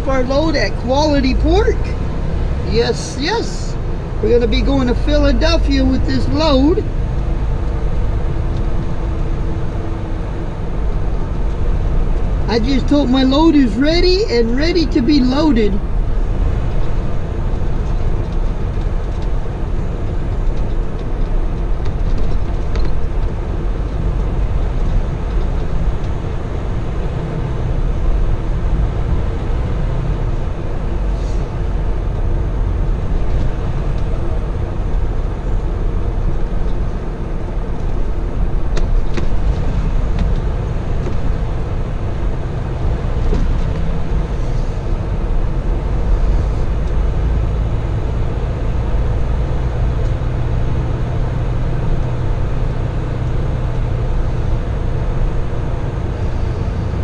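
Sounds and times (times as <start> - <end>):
road noise: 0.0 - 57.0
truck engine rumble: 0.0 - 57.0.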